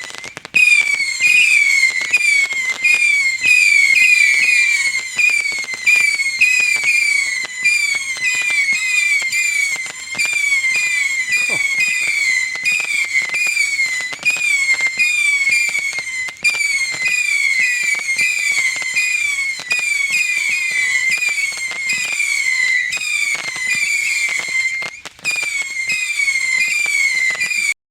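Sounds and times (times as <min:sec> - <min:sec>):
firework crackling pops: 0:00.0 - 0:27.8
firework whistles: 0:00.0 - 0:27.8.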